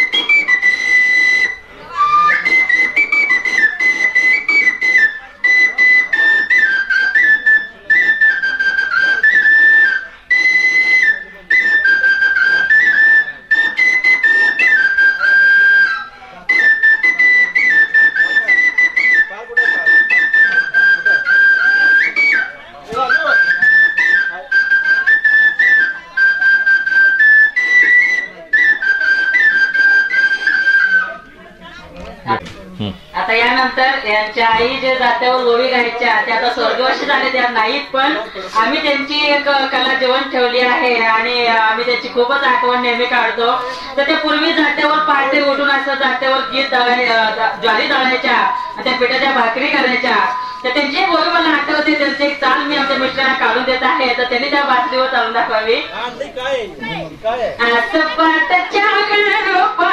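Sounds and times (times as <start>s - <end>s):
bamboo flute melody: 0.0s - 32.5s, 33.3s - 56.1s, 57.6s - 59.9s.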